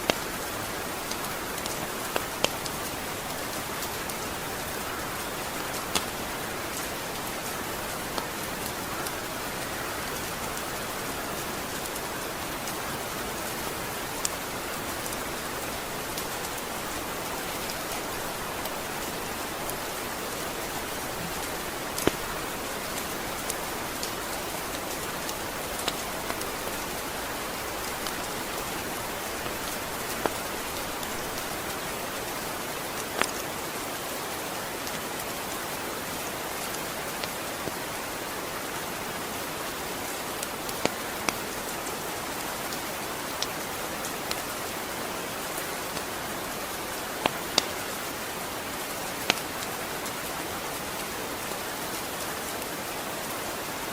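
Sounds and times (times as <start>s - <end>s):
rain hissing: 0.0s - 53.9s.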